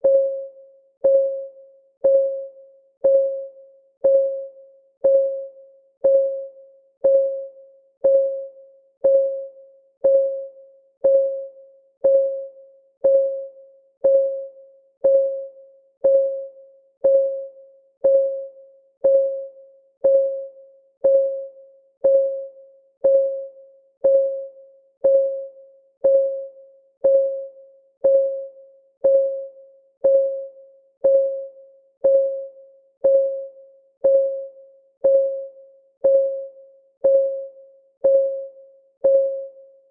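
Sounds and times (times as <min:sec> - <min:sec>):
timer ticking: 0:01.0 - 0:39.6.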